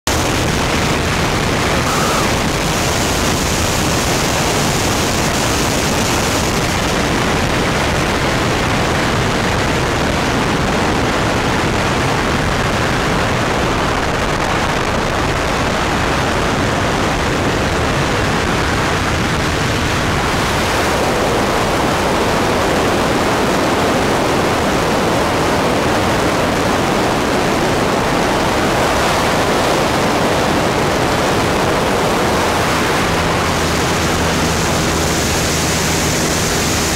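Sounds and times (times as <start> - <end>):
aircraft engine and propeller roar: 0.0 - 36.9
rushing air: 0.0 - 36.9.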